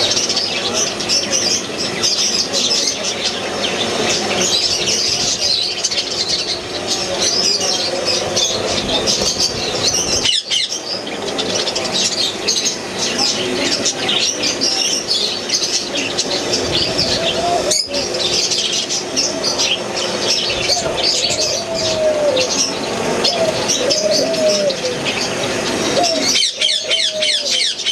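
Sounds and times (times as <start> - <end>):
lower drawn-out bird calls: 0.0 - 27.9
parakeets chattering: 0.0 - 27.9.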